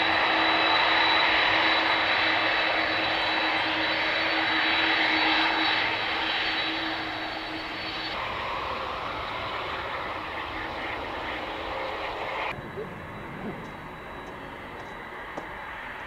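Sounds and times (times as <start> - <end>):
high engine whine: 0.0 - 16.0
jet engines rushing: 0.0 - 16.0.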